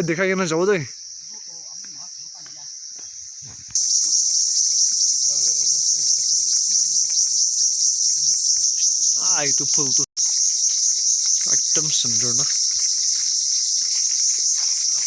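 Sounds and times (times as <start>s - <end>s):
insect chorus shrilling: 0.0s - 15.0s.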